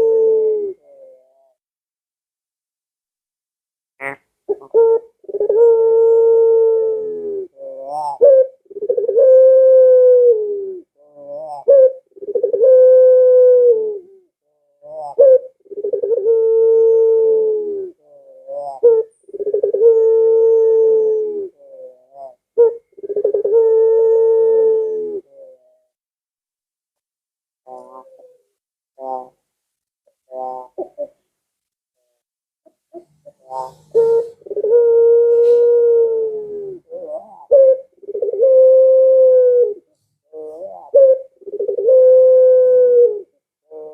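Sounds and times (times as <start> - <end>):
dove cooing: 0.0 - 1.6, 4.0 - 26.0, 27.7 - 29.4, 30.3 - 31.3, 32.9 - 43.9.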